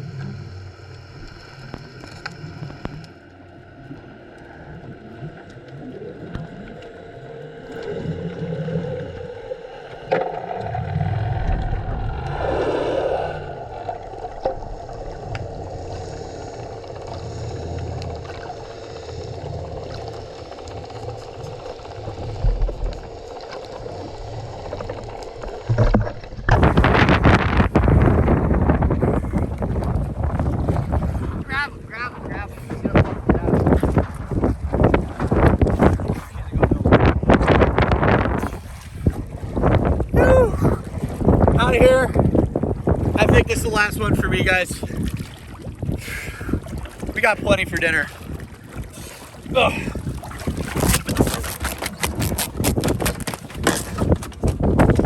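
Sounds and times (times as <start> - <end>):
rush of wind and water: 0.0 - 55.0
water sloshing against boat: 0.0 - 55.0.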